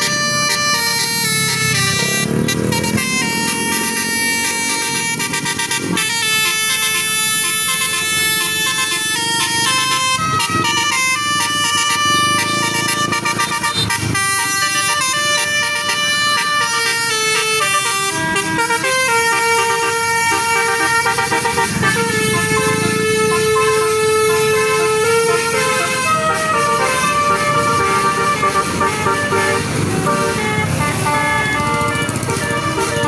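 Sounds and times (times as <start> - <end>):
melody bus horn playing a tune: 0.0 - 33.0.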